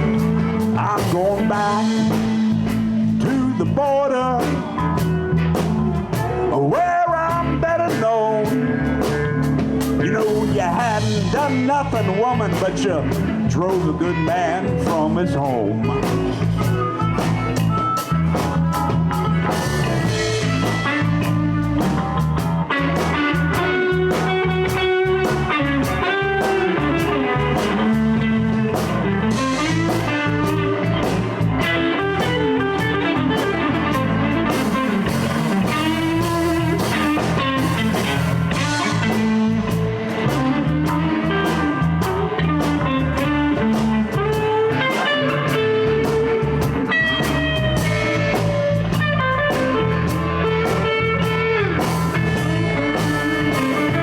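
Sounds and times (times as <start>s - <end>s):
bass and drums: 0.0s - 54.0s
lead guitar solo with bent notes: 0.0s - 54.0s.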